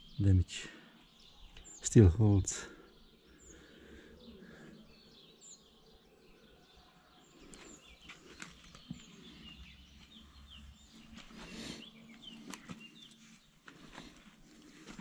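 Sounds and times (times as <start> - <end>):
bird chirps: 0.0 - 13.6.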